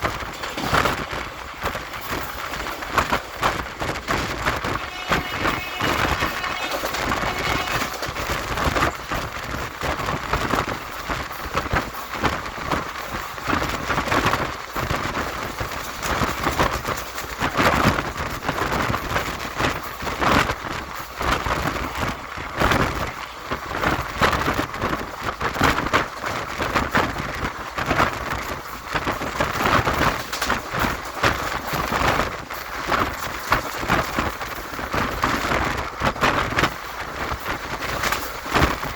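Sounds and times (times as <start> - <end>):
train passing at speed: 0.0 - 38.9.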